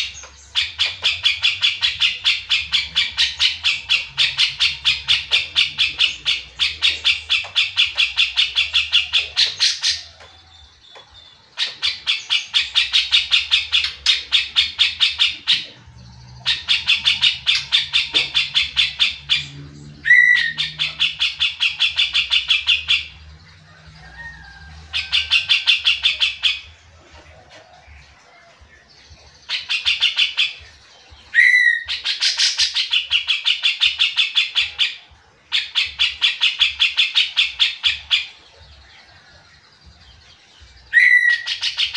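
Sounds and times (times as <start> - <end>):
bird song fast repeated notes: 0.0 - 41.9.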